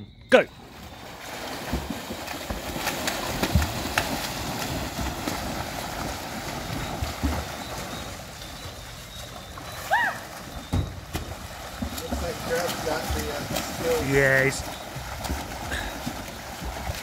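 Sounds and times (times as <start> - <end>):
swimmers splashing water: 0.3 - 17.0.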